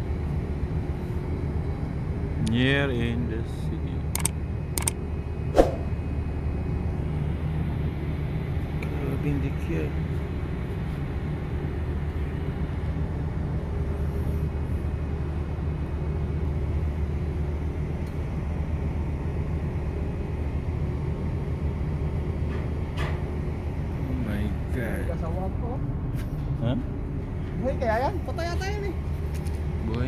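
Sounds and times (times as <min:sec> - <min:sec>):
low drone of ship machinery: 0:00.0 - 0:30.0.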